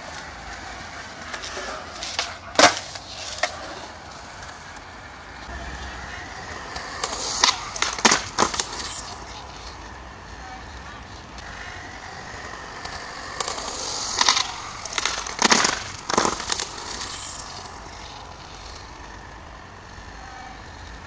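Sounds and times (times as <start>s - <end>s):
skateboard clacks: 0.0s - 21.0s
skateboard wheels rolling on concrete: 0.0s - 21.0s.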